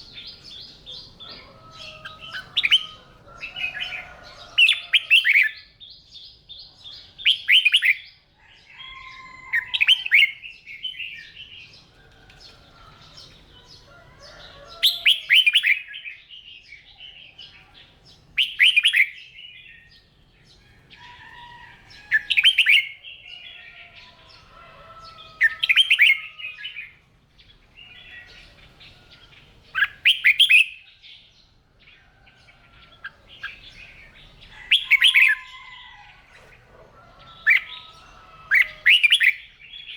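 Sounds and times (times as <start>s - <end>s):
birds singing warbled phrases: 0.0s - 39.9s.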